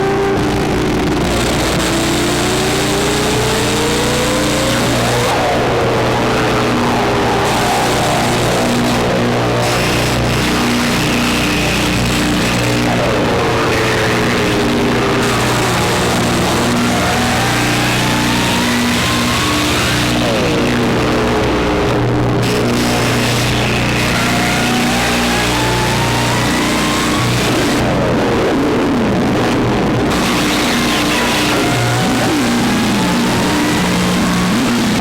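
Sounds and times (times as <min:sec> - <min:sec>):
distorted electronic drone music: 0:00.0 - 0:35.0.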